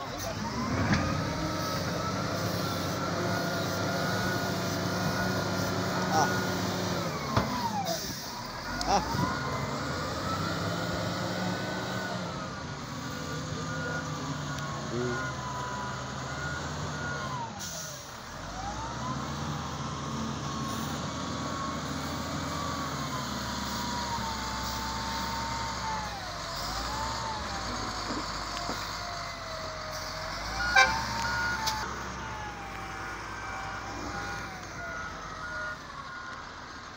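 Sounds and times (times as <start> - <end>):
loader diesel engine under load: 0.0 - 36.9
reversing beeper: 0.0 - 36.9.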